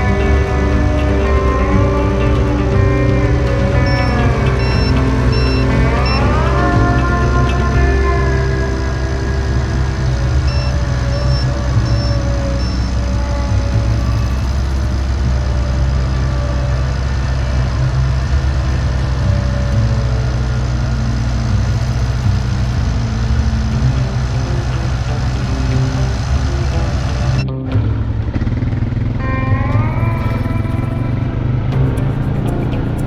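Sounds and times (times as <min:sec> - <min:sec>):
farm machinery engine running: 0:00.0 - 0:29.4.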